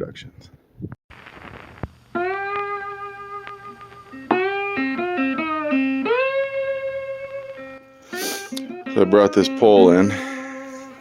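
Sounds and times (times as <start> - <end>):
guitar sliding notes: 1.6 - 11.0.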